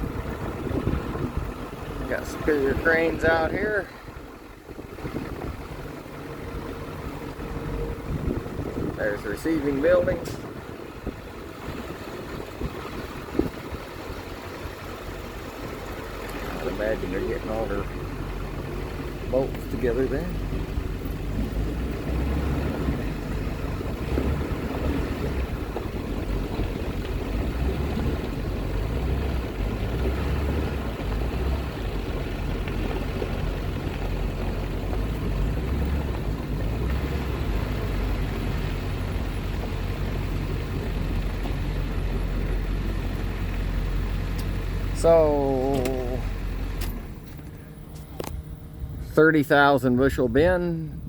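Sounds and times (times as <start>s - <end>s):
steady low rumble: 0.0s - 51.0s
wind buffeting microphone: 0.0s - 51.0s.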